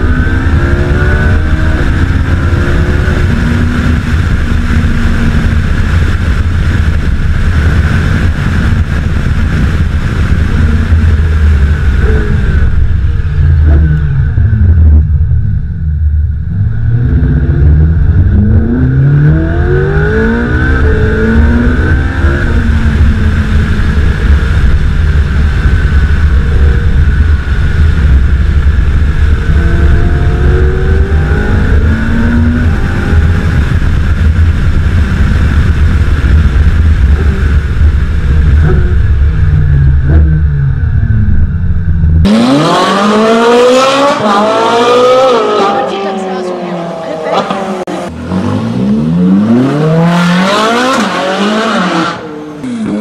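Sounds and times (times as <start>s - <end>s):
sports car engine revving: 0.0s - 53.0s.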